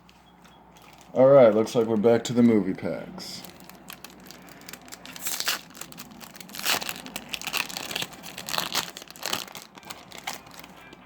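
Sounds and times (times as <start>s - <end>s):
foil wrapper crinkling and tearing: 0.8s - 11.0s.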